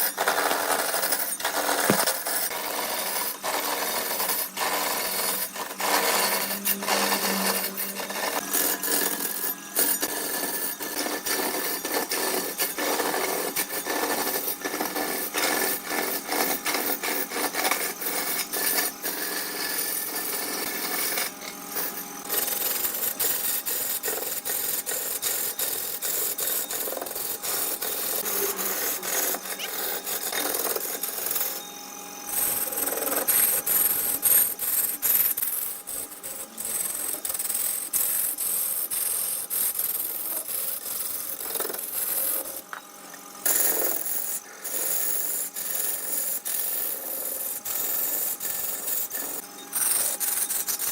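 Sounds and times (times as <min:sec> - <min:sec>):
wood lathe tool rasping: 0:00.0 - 0:31.7, 0:32.3 - 0:42.8, 0:43.4 - 0:50.9.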